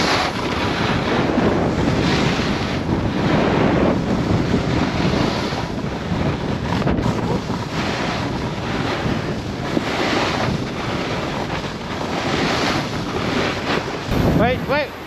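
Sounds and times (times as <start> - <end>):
snowboards scraping snow: 0.0 - 15.0
wind buffeting microphone: 0.0 - 15.0.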